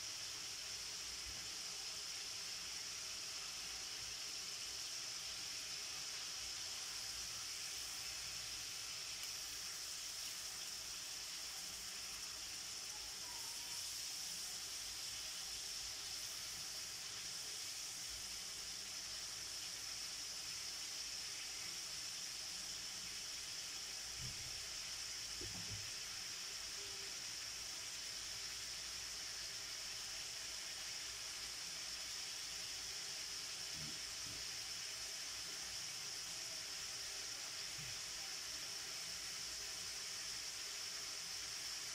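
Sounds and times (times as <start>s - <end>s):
meat sizzling in a wok: 0.0s - 41.9s.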